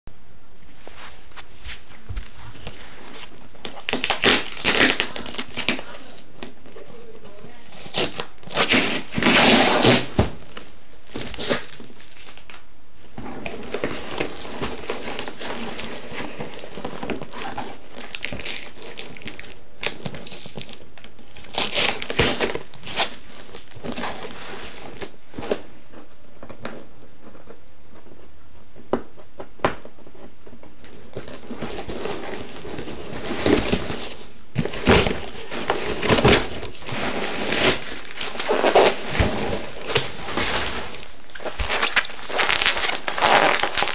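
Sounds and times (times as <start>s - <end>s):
packing paper rustling: 0.8s - 28.2s, 30.8s - 43.9s
cardboard box being unpacked: 1.7s - 28.2s, 30.9s - 43.9s.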